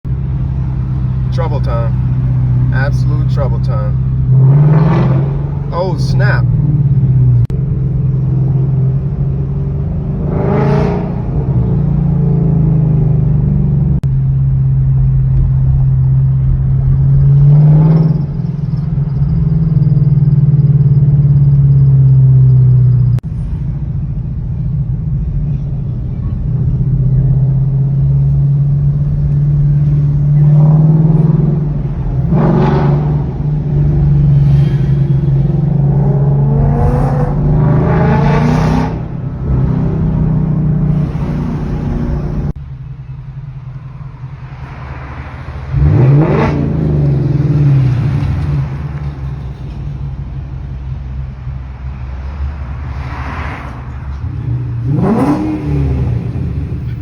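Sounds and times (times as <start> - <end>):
car exhaust droning: 0.1 - 53.1, 53.7 - 57.0.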